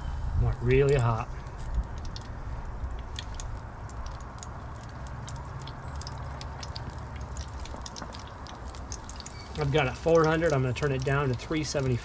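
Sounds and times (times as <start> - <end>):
crackles and pops of oil: 0.8 - 12.0
fish frying in hot oil: 1.2 - 12.0.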